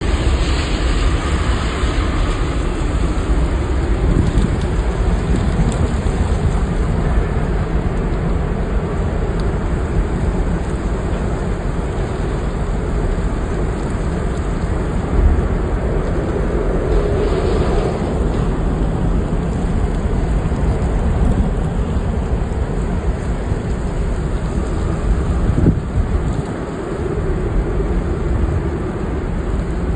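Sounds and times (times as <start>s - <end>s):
strong wind buffeting microphone: 0.0s - 29.9s.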